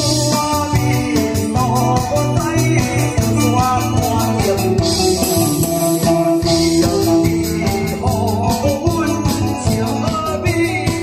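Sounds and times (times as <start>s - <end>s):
backing track with steady beat: 0.0s - 11.0s
person singing into microphone: 0.0s - 11.0s.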